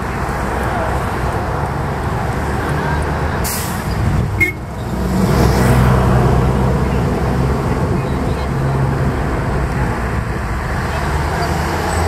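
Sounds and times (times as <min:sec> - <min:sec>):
heavier engine: 0:00.0 - 0:12.0
vehicle engines running: 0:00.0 - 0:12.0.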